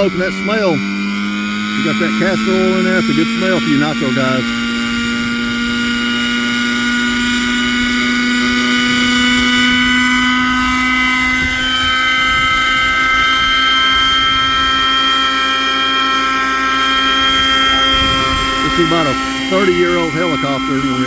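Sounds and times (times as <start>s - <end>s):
model helicopter engine buzzing: 0.0s - 21.0s.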